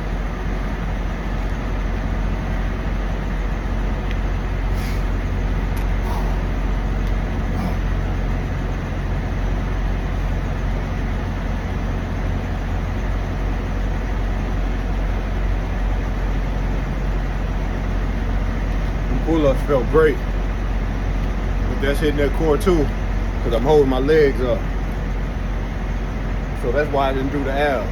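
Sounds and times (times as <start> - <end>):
diesel truck engines idling: 0.0 - 27.9.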